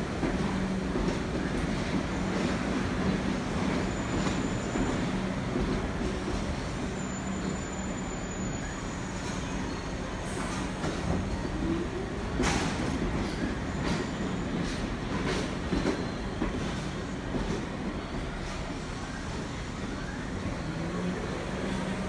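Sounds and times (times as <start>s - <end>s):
subway train rumble: 0.0s - 22.0s.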